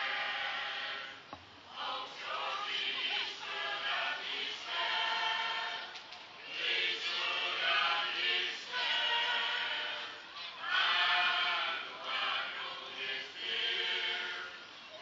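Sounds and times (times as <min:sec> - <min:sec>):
choir singing: 0:00.0 - 0:14.7.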